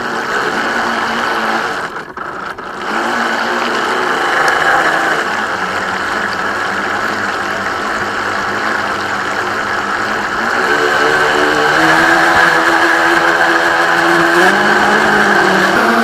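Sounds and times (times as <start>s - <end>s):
model boat motor humming: 0.0s - 16.0s
rushing water: 0.0s - 16.0s.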